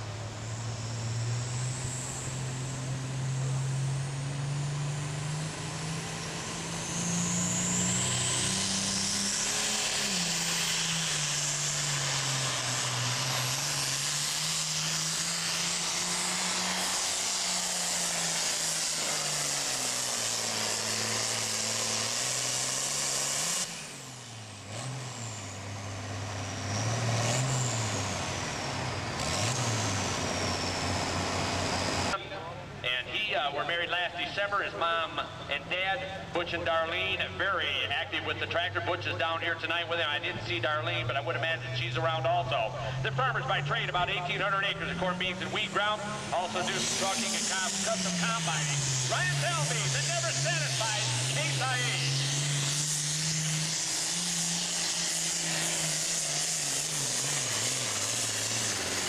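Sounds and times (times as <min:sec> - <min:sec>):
engine revving: 0:00.0 - 0:32.2, 0:33.7 - 0:59.0
tractor diesel engine at full power: 0:00.0 - 0:59.0.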